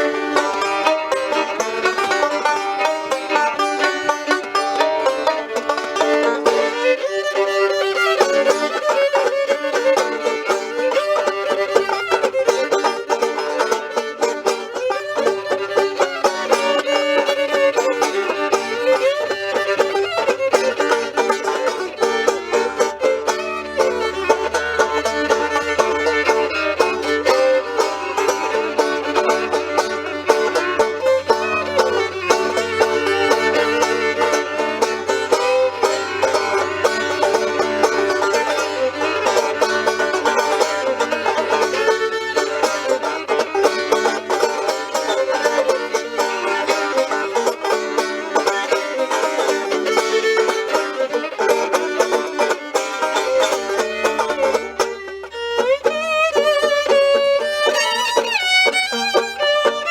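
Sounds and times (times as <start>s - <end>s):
banjo: 0.0s - 59.9s
fiddle: 0.0s - 59.9s.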